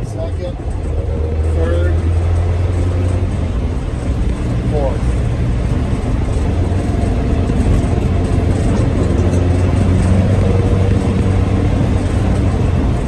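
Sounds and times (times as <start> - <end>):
bus engine running under load: 0.0 - 13.0
road noise: 0.0 - 13.0.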